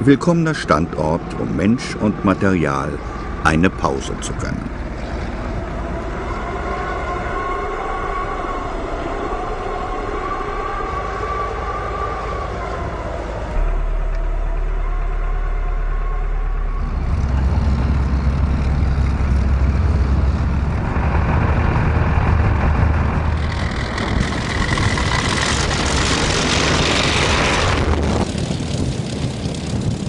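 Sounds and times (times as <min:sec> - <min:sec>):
vehicle engine drone: 0:00.0 - 0:30.0.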